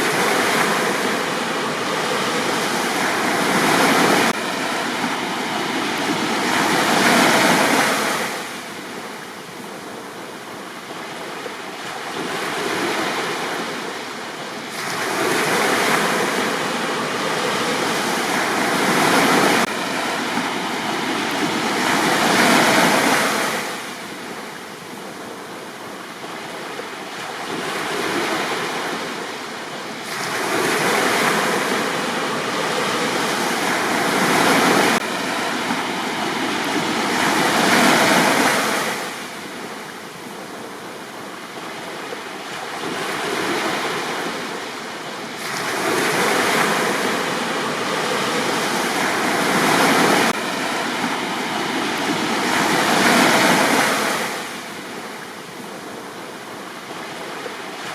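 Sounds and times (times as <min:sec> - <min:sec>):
sea waves breaking on beach: 0:00.0 - 0:57.9.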